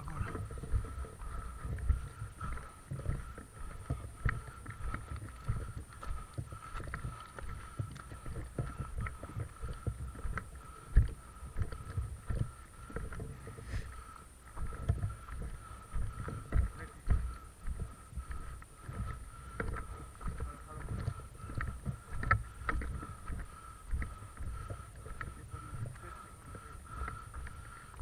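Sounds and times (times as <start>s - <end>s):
low rumbling wind: 0.0s - 28.0s.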